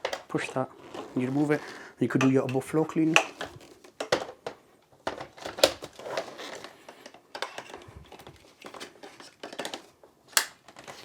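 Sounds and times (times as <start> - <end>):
plastic parts clicking and knocking: 0.0 - 1.4, 2.1 - 11.0.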